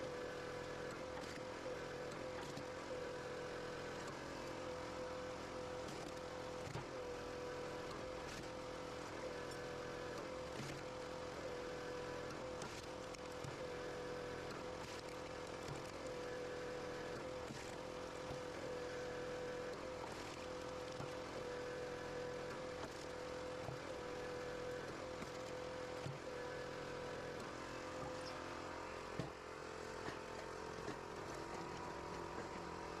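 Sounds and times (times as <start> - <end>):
firewood processing machine humming: 0.0 - 33.0.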